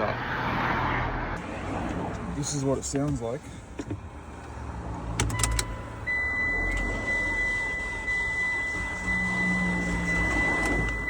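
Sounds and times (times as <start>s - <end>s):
car engine cranking: 1.8s - 11.0s.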